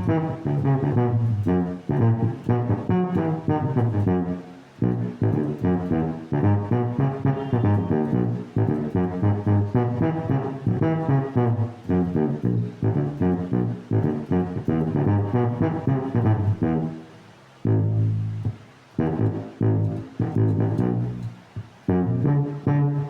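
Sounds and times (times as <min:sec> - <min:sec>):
electric bass staccato notes: 0:00.0 - 0:17.0, 0:17.6 - 0:23.0.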